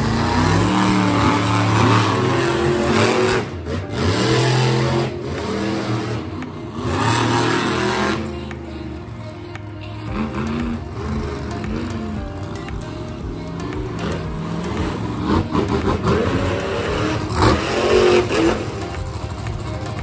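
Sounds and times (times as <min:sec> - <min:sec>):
monster truck engines revving: 0:00.0 - 0:20.0.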